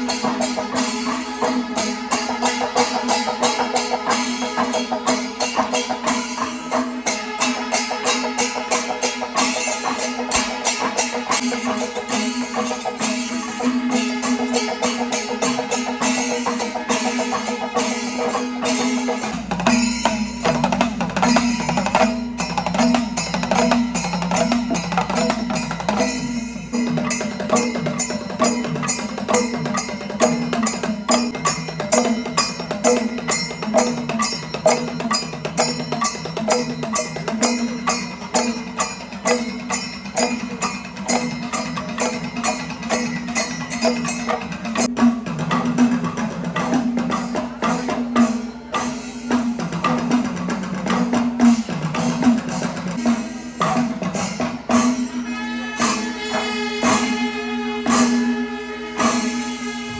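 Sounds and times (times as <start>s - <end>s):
drums beating fast rhythm: 0.0s - 59.9s
small hand cymbals: 0.0s - 59.9s.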